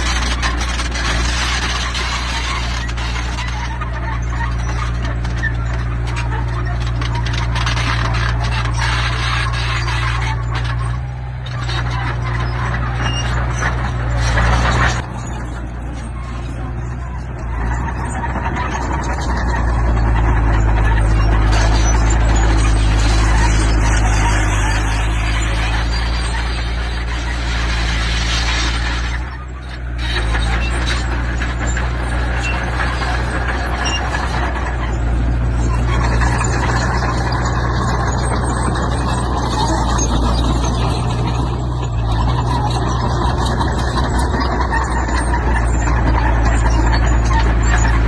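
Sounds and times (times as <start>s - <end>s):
clatter and scrape of stone: 0.0s - 48.0s
heavy diesel engine under load: 0.0s - 48.0s
metallic clanking and rattling: 0.0s - 48.0s.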